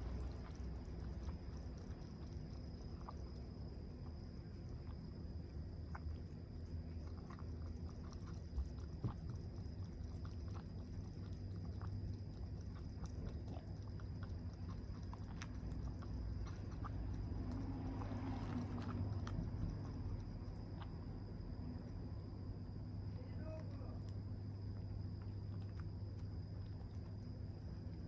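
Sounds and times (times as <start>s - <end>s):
cat chewing clicks: 0.0s - 22.0s, 23.7s - 28.0s
steady low hum: 0.0s - 28.0s.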